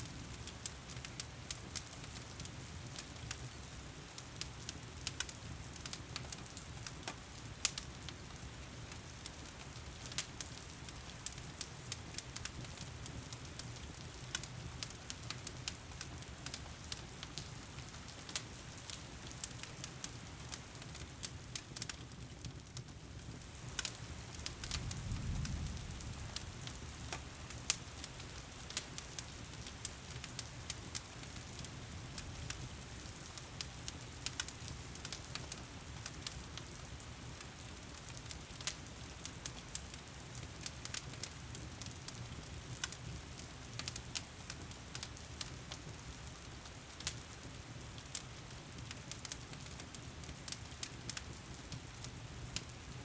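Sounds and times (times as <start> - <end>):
crackling wood fire: 0.0 - 53.0.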